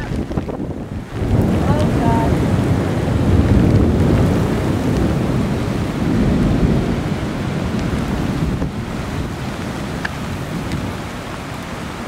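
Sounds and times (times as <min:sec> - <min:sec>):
heavy storm rain: 0:00.0 - 0:12.0
wind buffeting microphone: 0:00.0 - 0:12.0.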